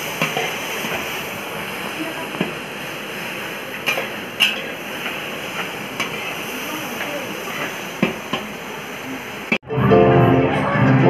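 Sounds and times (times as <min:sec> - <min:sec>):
onions frying hiss: 0:00.0 - 0:09.6.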